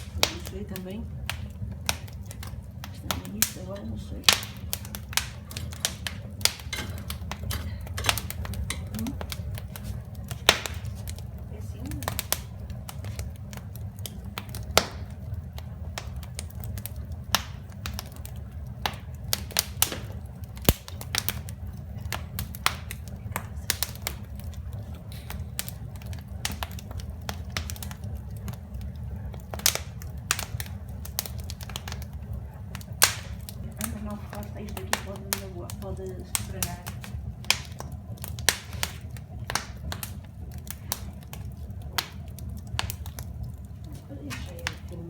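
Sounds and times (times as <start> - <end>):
steady low rumble: 0.0 - 45.0
wood fire crackling and popping: 0.0 - 45.0.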